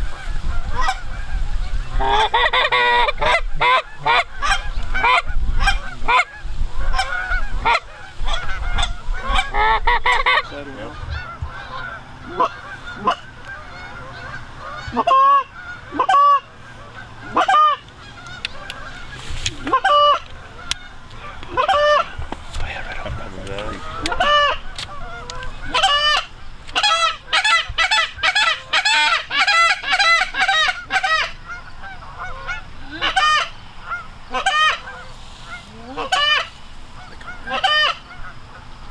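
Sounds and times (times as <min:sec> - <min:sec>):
geese honking: 0:00.0 - 0:38.9.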